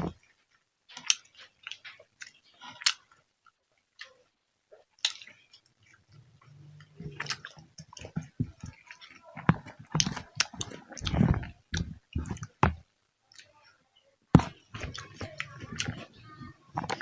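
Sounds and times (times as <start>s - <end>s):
chewing and crunching food: 0.0s - 13.8s, 14.4s - 17.0s.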